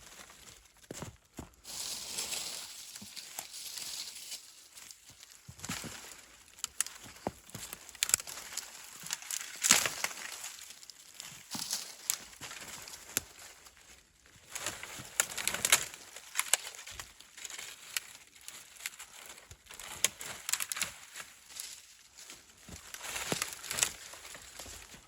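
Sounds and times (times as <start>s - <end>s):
dry twigs crunching and snapping: 0.0s - 25.0s.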